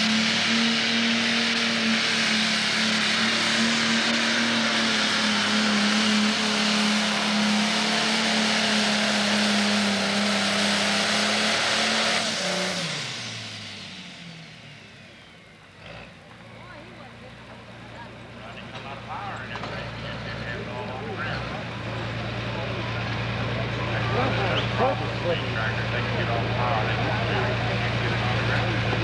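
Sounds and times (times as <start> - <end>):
diesel engine running flat out: 0.0 - 29.0.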